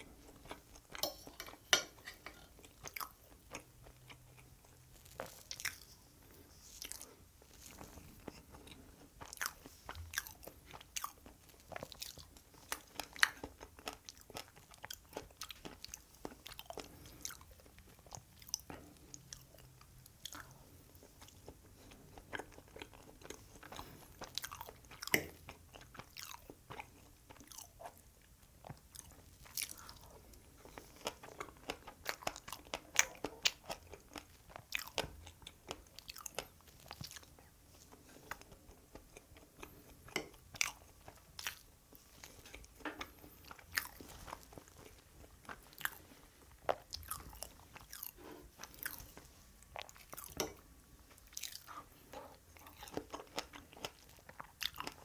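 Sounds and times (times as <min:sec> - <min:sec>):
person chewing cake: 0:00.0 - 0:55.0.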